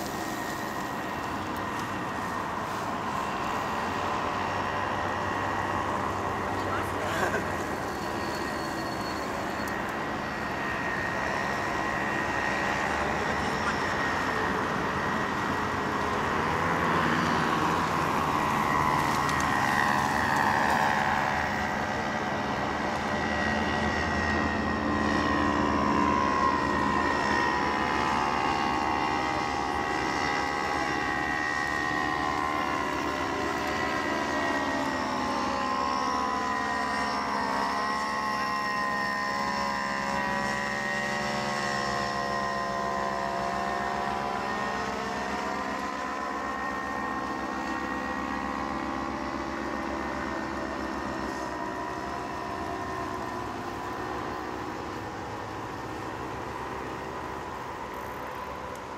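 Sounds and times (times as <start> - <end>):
distant engine drone: 0.0 - 58.9.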